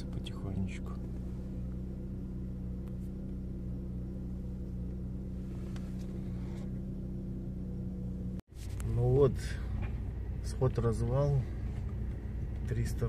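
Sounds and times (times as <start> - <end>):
car engine running inside cabin: 0.0 - 13.0.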